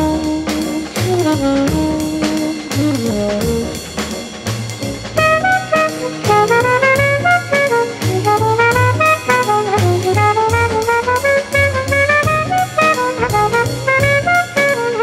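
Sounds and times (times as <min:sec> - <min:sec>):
jazz horn melody: 0:00.0 - 0:15.0
steady drum beat: 0:00.0 - 0:15.0.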